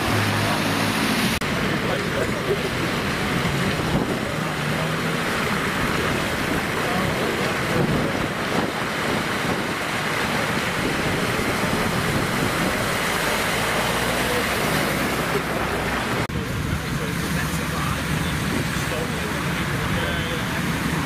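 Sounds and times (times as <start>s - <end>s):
car engines running: 0.0s - 21.0s
tyres splashing through water: 0.0s - 21.0s.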